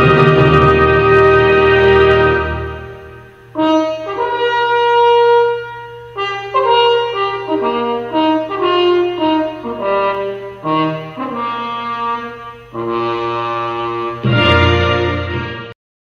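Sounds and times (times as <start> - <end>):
french horn melody: 0.0 - 15.8.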